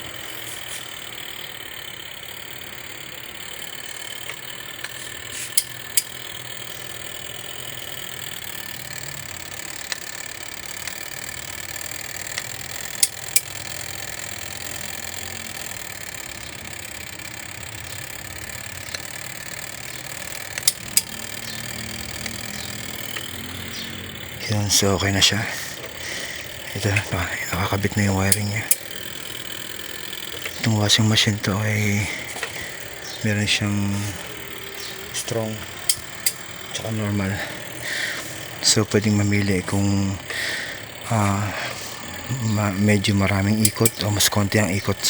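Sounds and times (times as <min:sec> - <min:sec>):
sharp clicks: 0:00.0 - 0:45.0
washing machine motor running: 0:00.0 - 0:45.0.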